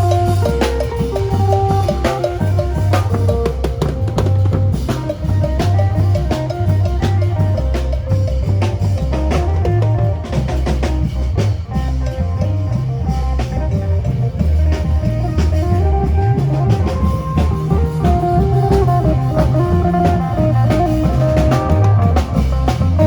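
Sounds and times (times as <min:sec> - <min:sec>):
drum kit: 0:00.0 - 0:23.0
heavy pulsing bass: 0:00.0 - 0:23.0.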